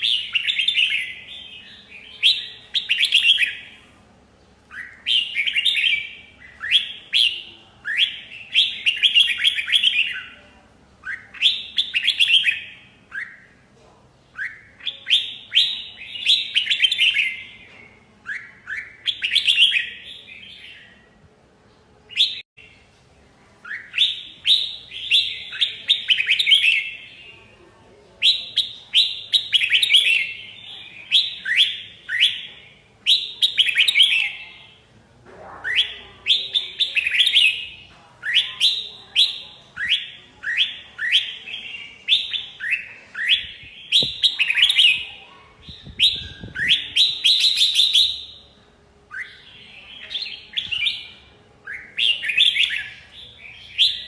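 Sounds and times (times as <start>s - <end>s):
bird singing chirped phrases: 0.0s - 22.9s, 23.5s - 54.0s.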